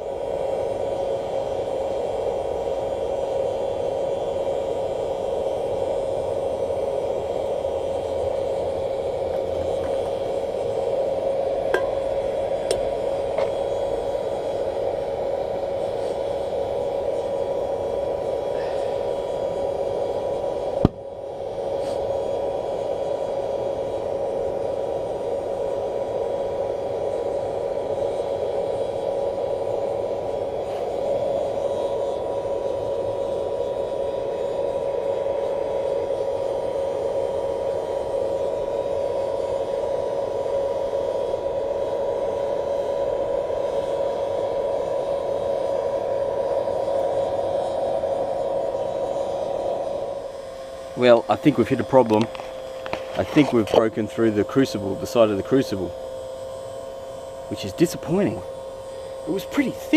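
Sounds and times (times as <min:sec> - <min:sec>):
blower rushing air with hum: 0:00.0 - 0:59.9.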